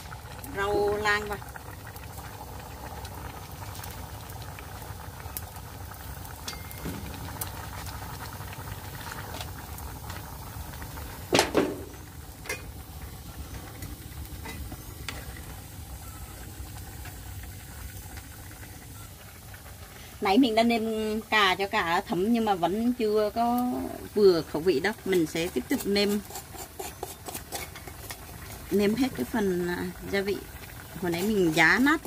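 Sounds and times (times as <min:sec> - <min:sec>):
water boiling in a pot: 0:00.0 - 0:32.0.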